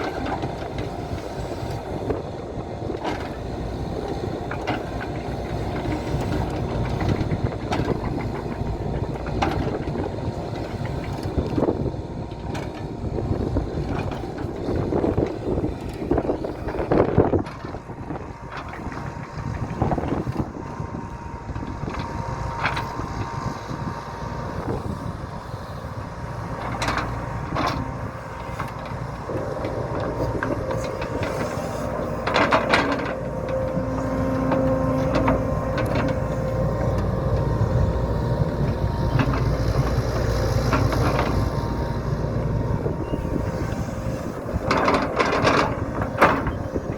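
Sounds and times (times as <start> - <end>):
diesel engine whining under load: 0.0 - 46.9.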